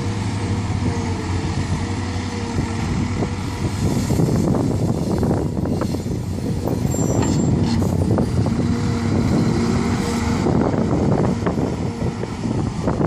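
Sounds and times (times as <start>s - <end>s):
dump truck engine manoeuvring: 0.0s - 13.0s
excavators droning: 0.0s - 13.0s.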